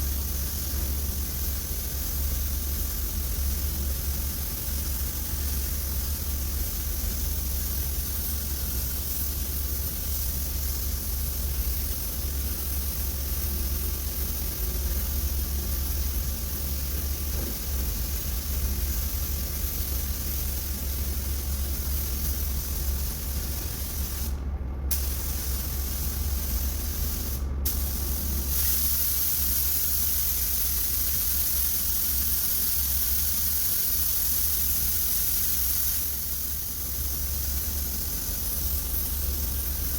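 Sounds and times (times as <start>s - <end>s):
spray gun hissing: 0.0s - 39.9s
steady low hum: 0.0s - 39.9s.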